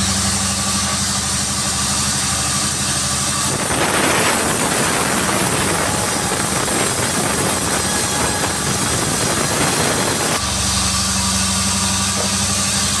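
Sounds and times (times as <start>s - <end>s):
sawmill engine running: 0.0s - 13.0s
saw cutting wood: 0.9s - 13.0s.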